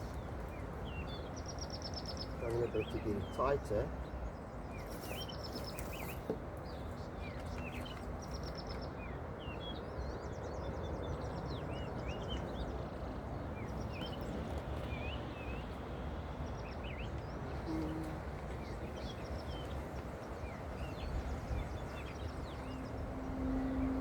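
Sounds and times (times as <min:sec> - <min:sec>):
birds chirping and trilling: 0:00.0 - 0:24.0.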